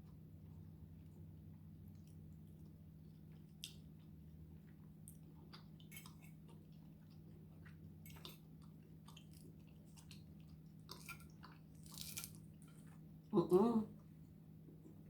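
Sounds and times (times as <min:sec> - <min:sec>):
person chewing food: 0:00.5 - 0:13.1.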